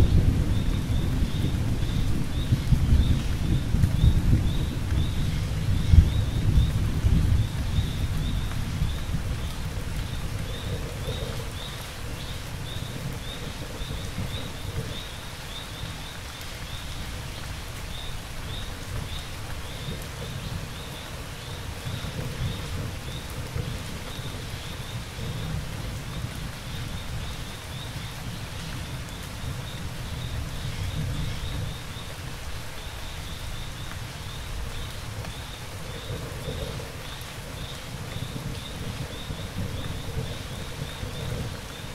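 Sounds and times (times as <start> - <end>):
low rolling thunder: 0.0 - 16.0, 18.4 - 32.4, 34.3 - 41.9
steady rain falling: 0.0 - 41.9
crickets chirping: 7.4 - 41.9.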